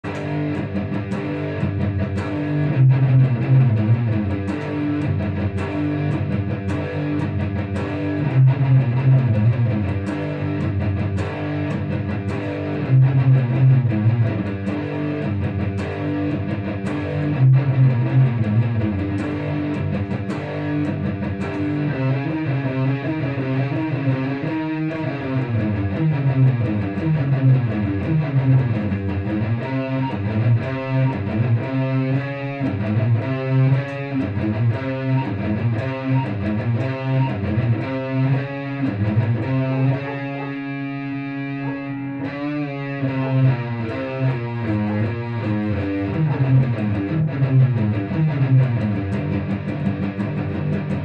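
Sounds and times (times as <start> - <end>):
electric guitar metal riffs: 0.0 - 51.0.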